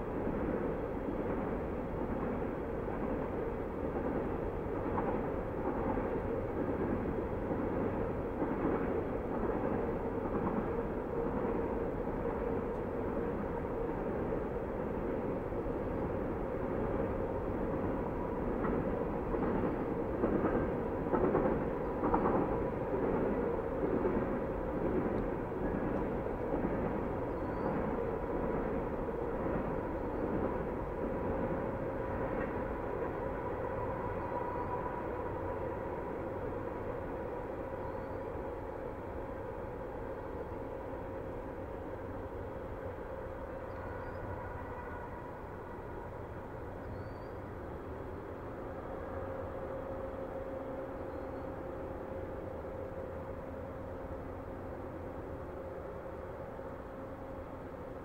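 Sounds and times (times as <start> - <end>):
distant freight train rumbling: 0.0 - 58.0.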